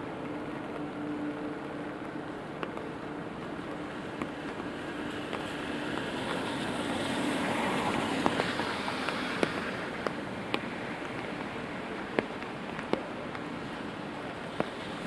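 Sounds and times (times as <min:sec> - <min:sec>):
car passing on wet road: 0:00.0 - 0:15.0
raindrops on umbrella: 0:00.0 - 0:15.0
wet traffic hiss: 0:00.1 - 0:15.0.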